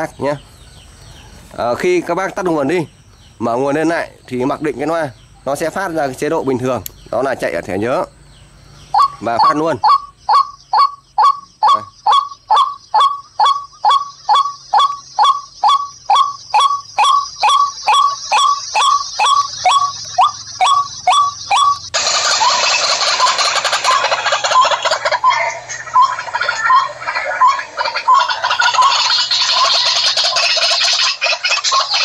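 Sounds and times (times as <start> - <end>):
many birds calling: 0.0 - 32.0
recorded bird call from loudspeaker: 0.0 - 32.0.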